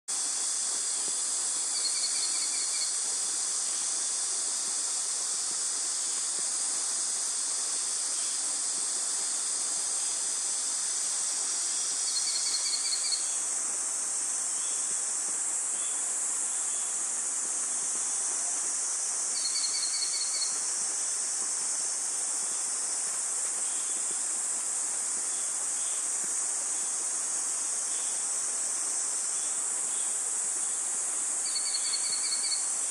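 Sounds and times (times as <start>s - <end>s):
high insect chorus: 0.1s - 32.9s.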